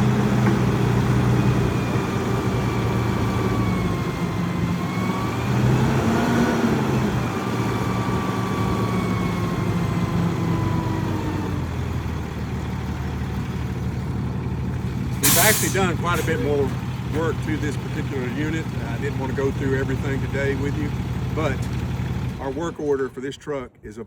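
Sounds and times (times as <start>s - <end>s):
diesel truck engine running: 0.0s - 23.6s.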